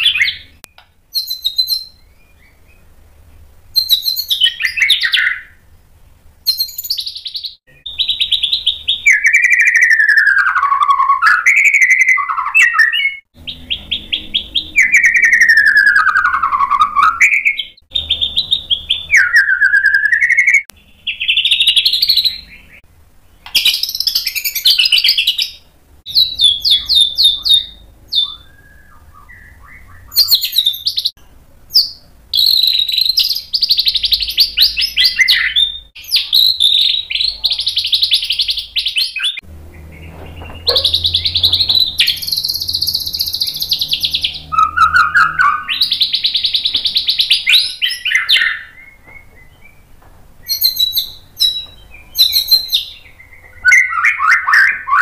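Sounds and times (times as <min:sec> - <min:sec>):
songbird singing varied song: 0:00.0 - 0:05.6, 0:06.4 - 0:55.0.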